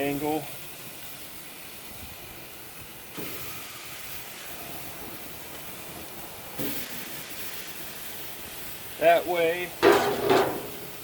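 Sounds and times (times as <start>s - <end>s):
steaks sizzling on grill: 0.0s - 11.0s.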